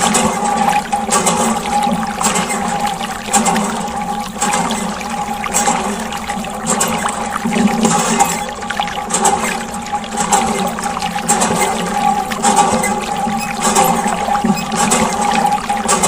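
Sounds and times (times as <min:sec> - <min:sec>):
water churning and splashing: 0:00.0 - 0:16.0.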